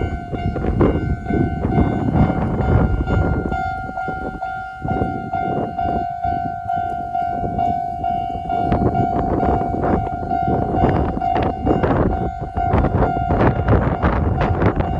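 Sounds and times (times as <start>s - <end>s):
electric train rumbling: 0.0s - 14.9s
level-crossing warning bell: 0.0s - 14.9s.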